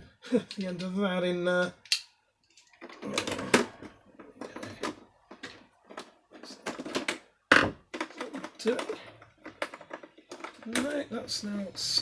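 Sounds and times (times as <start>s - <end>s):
plastic parts and tools rattling: 1.8s - 12.0s.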